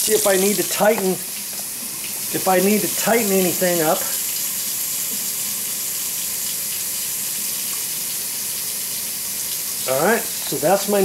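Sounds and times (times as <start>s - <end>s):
water running from faucet into sink: 0.0s - 11.0s.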